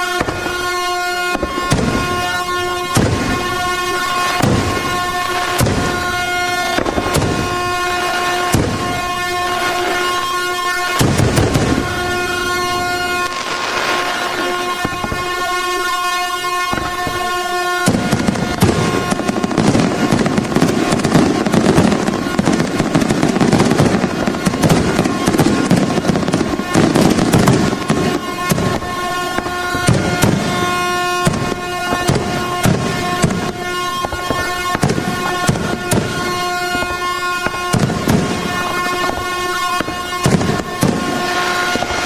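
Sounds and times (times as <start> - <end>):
air horn steady tone: 0.0 - 42.0
fireworks popping and crackling: 0.0 - 42.0.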